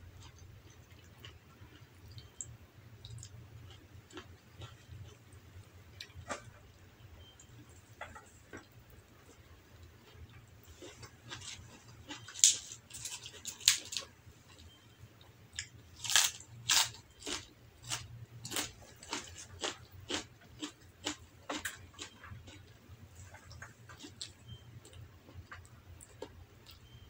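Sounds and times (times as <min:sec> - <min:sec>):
chewing with mouth clicks: 0:00.2 - 0:27.0.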